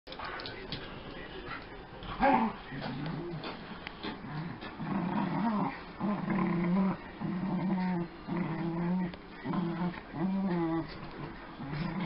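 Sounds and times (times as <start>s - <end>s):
dogs growling in play: 1.6s - 12.0s.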